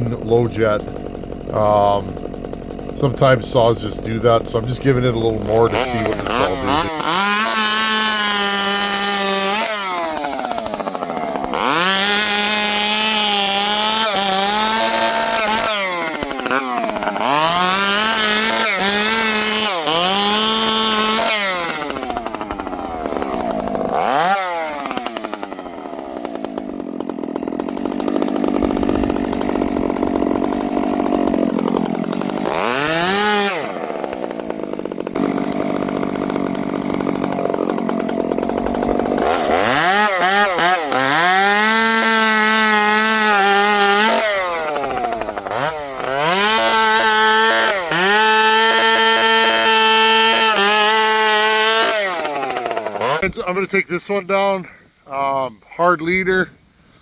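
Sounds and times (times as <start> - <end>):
chainsaw revving: 0.0 - 53.7.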